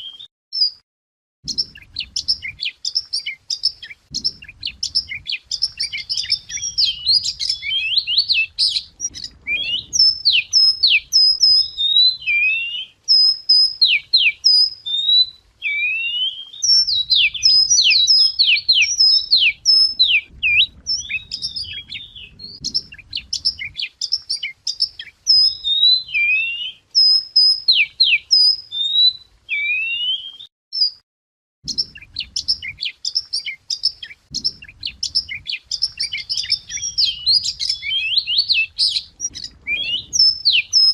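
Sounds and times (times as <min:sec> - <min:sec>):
bird singing: 0:01.4 - 0:31.0, 0:31.6 - 0:40.9.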